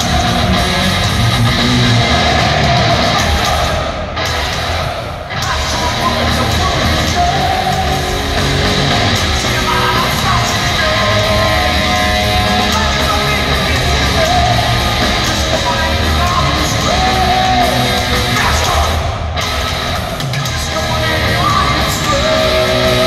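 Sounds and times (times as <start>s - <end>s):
distorted electric guitars: 0.0s - 23.0s
drums: 0.0s - 23.0s.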